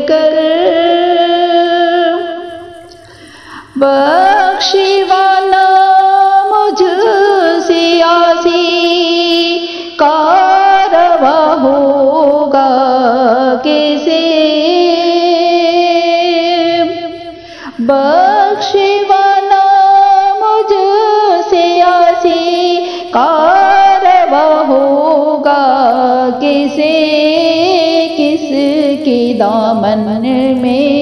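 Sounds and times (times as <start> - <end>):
woman singing devotional song: 0.0 - 31.0.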